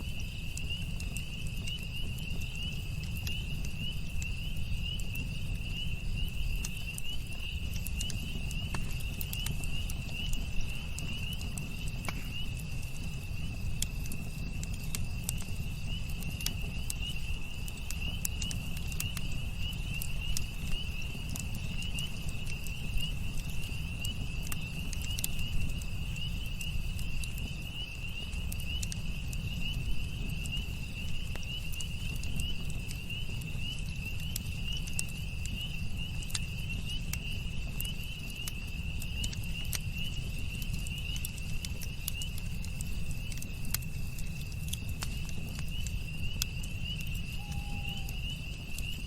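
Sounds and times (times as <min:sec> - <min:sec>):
campfire crackling: 0:00.0 - 0:49.0
cricket trilling: 0:00.0 - 0:49.0.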